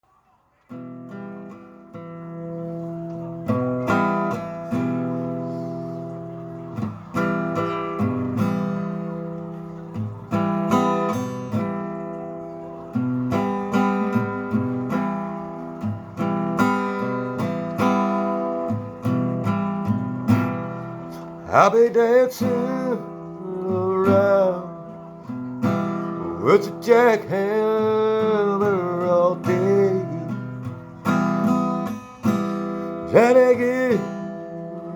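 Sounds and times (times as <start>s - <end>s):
acoustic guitar strumming chords: 0.7s - 34.9s.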